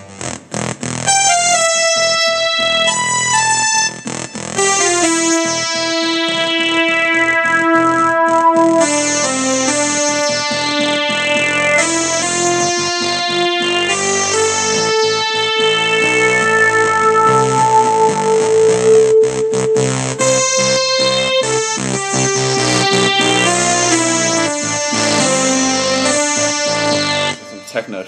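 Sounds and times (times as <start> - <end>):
digital keyboard slow melody: 0.0 - 28.0.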